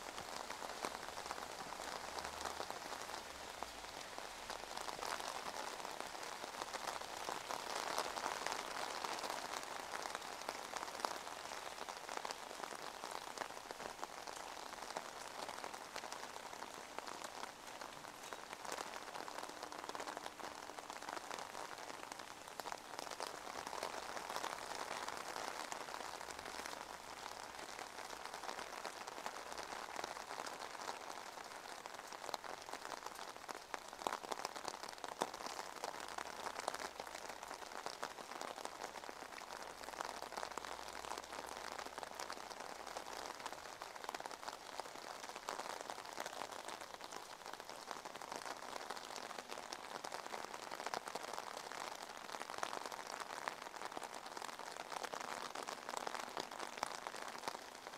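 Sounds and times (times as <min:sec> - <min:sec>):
rain on wet pavement: 0:00.0 - 0:57.9.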